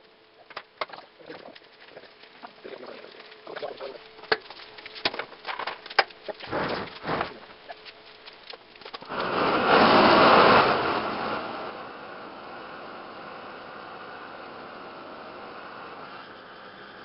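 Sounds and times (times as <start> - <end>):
gas torch flame hissing: 1.2 - 17.0.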